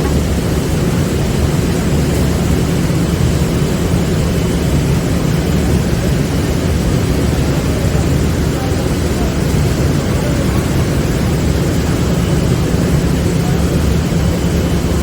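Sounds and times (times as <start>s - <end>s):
industrial vacuum cleaner running: 0.0s - 15.0s.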